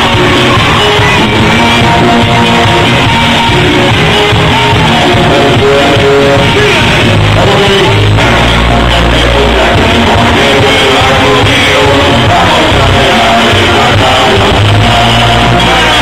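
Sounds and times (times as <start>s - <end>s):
live band music with singing: 0.0s - 16.0s.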